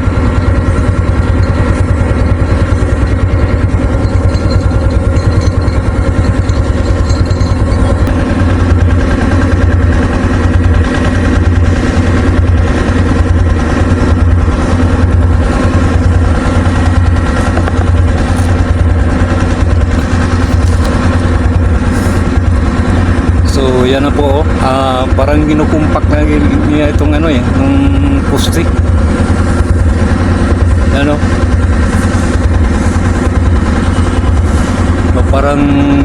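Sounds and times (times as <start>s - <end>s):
engine running with deep hum: 0.0s - 36.0s.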